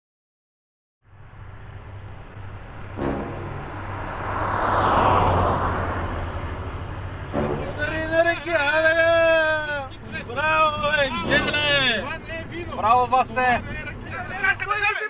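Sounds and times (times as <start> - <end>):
car driving past: 1.1 - 14.7.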